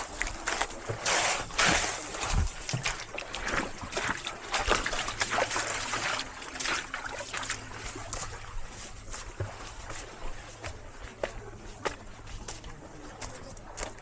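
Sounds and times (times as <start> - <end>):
seawater sloshing and splashing: 0.0 - 14.0.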